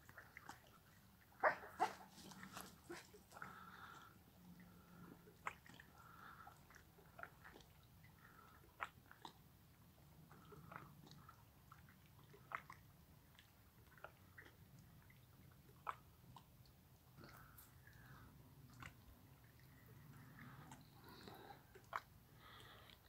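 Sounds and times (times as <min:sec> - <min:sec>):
low faint hum: 0:00.0 - 0:23.0.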